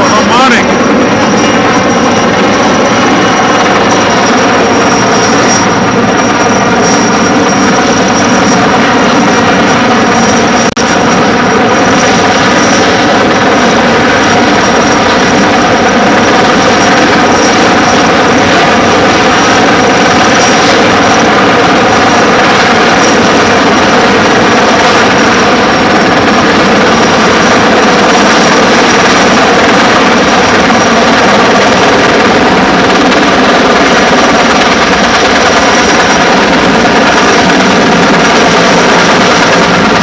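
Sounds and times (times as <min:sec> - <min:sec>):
helicopter rotor and turbine noise: 0:00.0 - 0:40.0.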